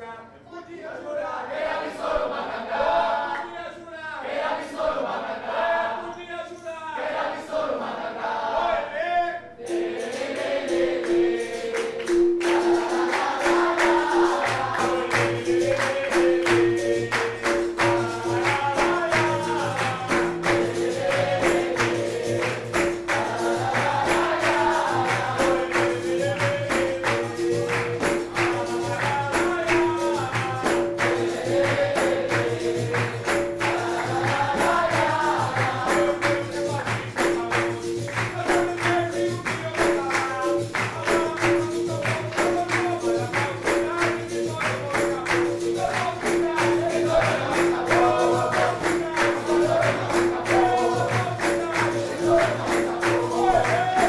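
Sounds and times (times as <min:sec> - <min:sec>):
group singing: 0:00.8 - 0:54.0
tambourine rhythm: 0:09.5 - 0:54.0.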